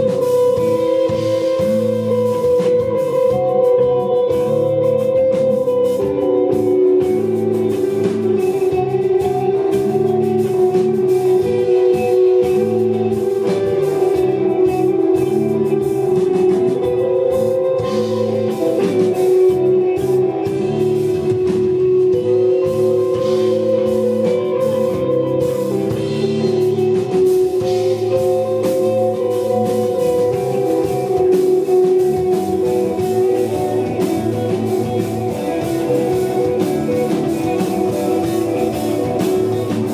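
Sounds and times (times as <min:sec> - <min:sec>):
bass guitar repeating figure: 0:00.0 - 0:39.9
drum kit: 0:00.0 - 0:39.9
electric guitar long notes: 0:00.0 - 0:39.9.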